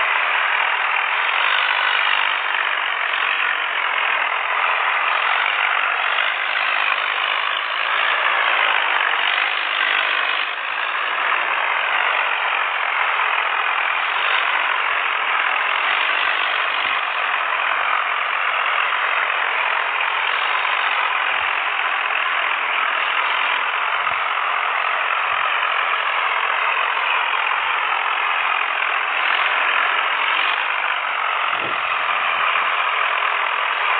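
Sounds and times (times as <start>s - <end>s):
tractor diesel engine droning: 0.0s - 33.9s.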